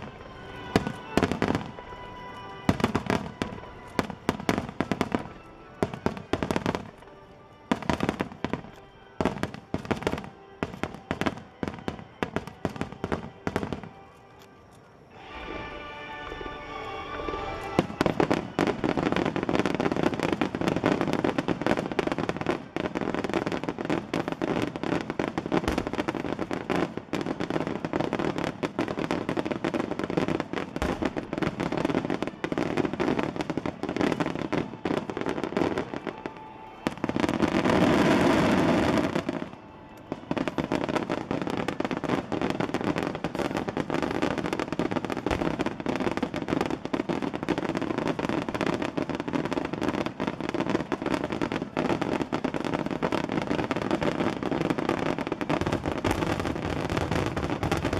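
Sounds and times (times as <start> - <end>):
fireworks bangs and crackle: 0.0 - 14.5, 15.1 - 57.9.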